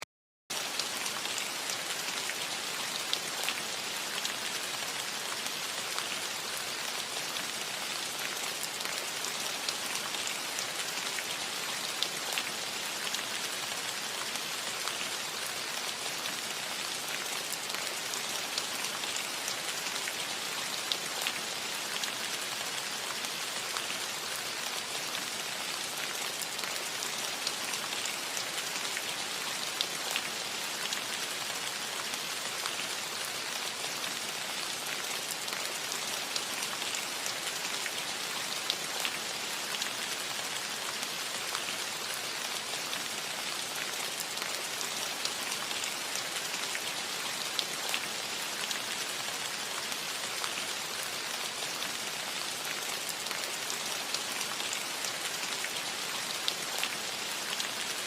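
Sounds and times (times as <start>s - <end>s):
rain falling on roof: 0.5s - 58.0s.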